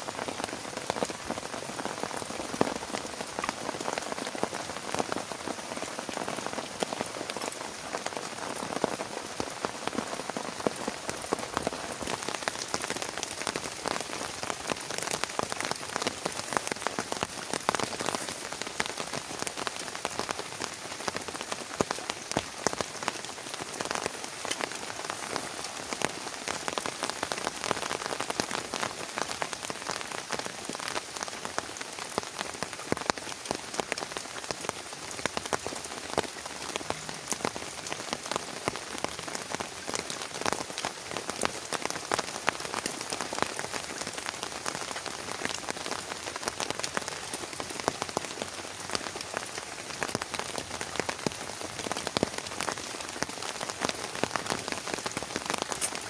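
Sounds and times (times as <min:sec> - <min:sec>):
heavy rain: 0:00.0 - 0:56.0
raindrops ticking on a surface: 0:00.0 - 0:56.0.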